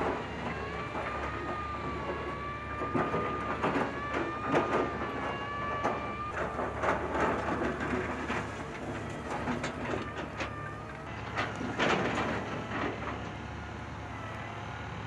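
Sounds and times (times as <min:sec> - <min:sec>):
metallic clanks and knocks: 0:00.0 - 0:13.4
diesel machinery drone: 0:00.0 - 0:15.0.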